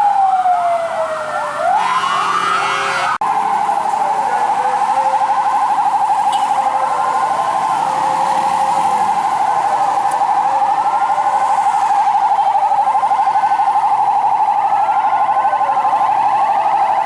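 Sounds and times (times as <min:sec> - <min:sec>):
fast-warbling fire truck siren: 0:00.0 - 0:17.0
sirens wailing up and down: 0:00.0 - 0:17.0.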